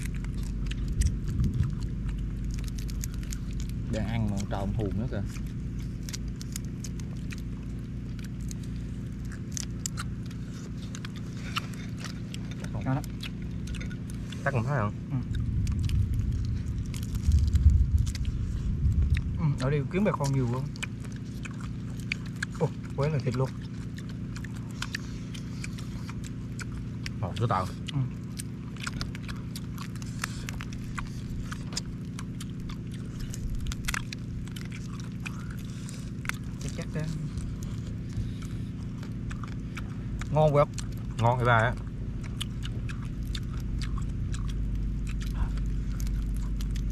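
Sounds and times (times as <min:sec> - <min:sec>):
chewing: 0:00.0 - 0:46.9
steady low hum: 0:00.0 - 0:46.9.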